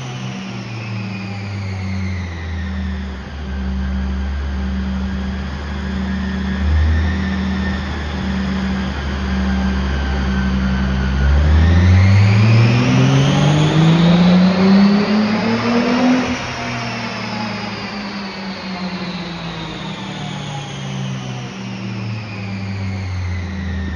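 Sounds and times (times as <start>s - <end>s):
race car engine revving on dyno: 0.0s - 23.9s.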